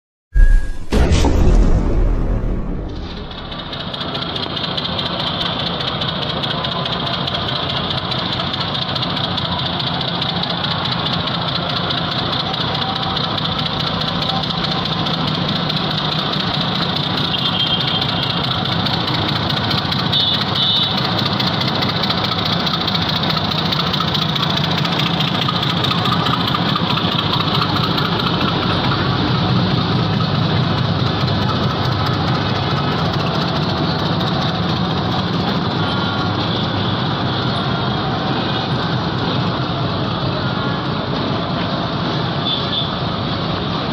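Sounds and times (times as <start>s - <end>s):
diesel locomotive engine running: 1.7s - 43.9s.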